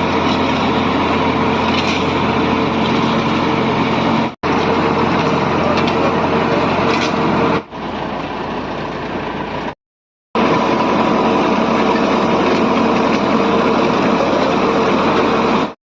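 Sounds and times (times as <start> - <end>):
heavy machinery engine running: 0.0 - 9.8, 10.4 - 15.8.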